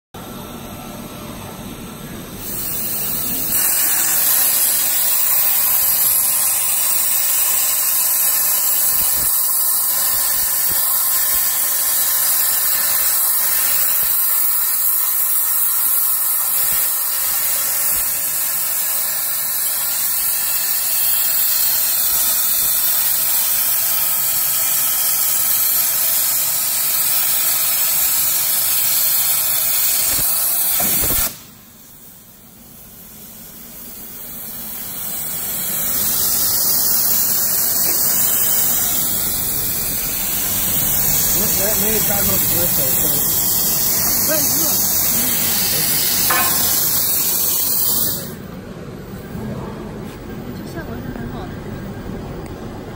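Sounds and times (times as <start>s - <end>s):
plasma torch hissing: 2.4s - 48.5s.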